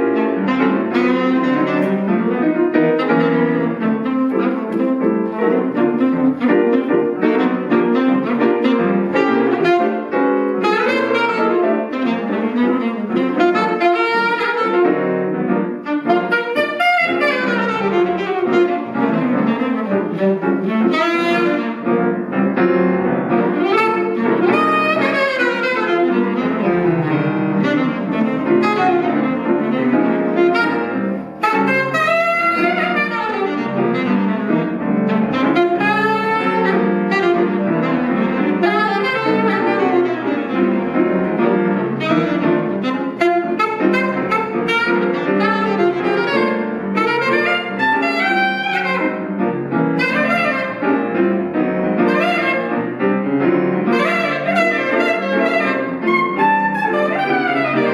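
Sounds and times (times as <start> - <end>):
jazz saxophone playing: 0.0 - 57.9
piano accompaniment: 0.0 - 57.9.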